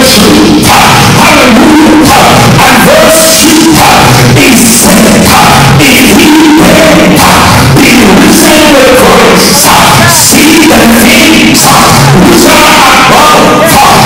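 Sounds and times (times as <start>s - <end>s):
man singing through pa: 0.0s - 14.0s.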